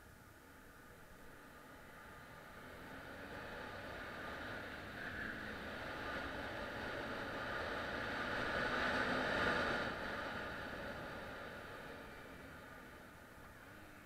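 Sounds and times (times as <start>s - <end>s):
motorcycle engine at speed: 0.4s - 14.0s.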